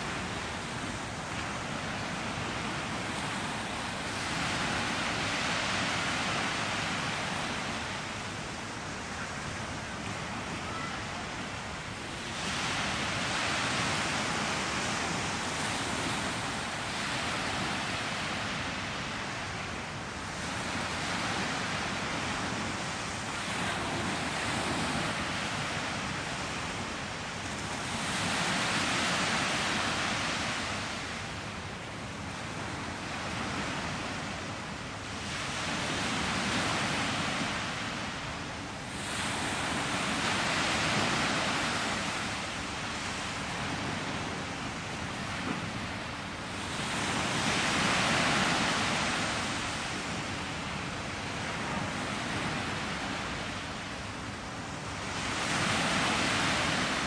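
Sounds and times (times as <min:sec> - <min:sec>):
waves breaking on beach: 0:00.0 - 0:57.0.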